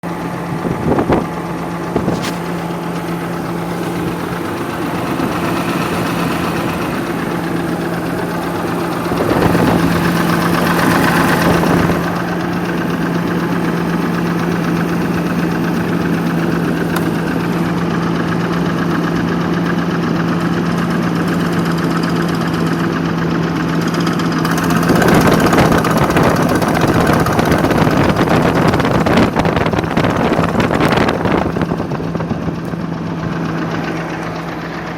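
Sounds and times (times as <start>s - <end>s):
car engine idling with knock: 0.0s - 34.9s.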